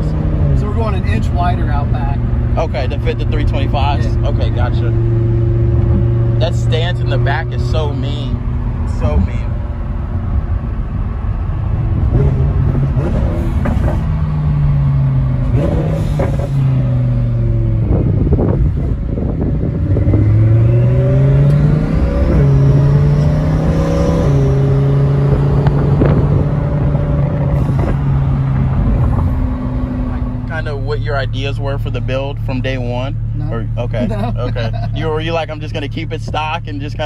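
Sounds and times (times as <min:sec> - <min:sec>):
car engine revving with gear changes: 0:00.0 - 0:37.0.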